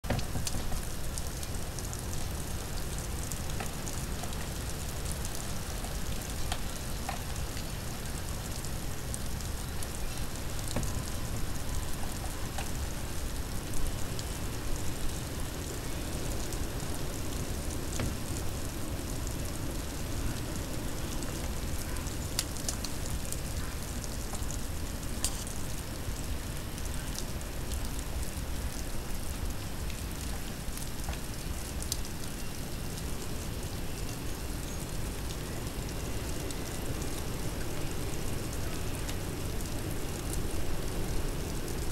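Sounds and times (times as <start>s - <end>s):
faint ticks and crackles: 0.0s - 41.9s
snowstorm hiss and rumble: 0.0s - 41.9s.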